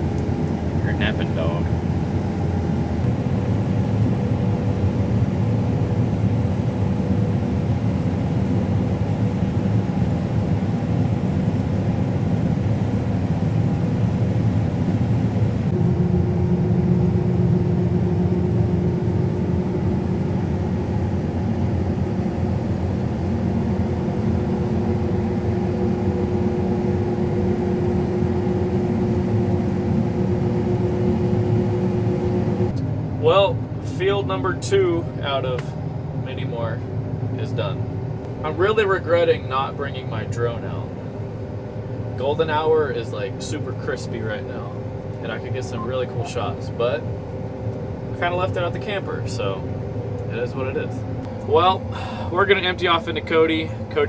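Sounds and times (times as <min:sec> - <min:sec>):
combine harvester drone from cab: 0:00.0 - 0:54.0.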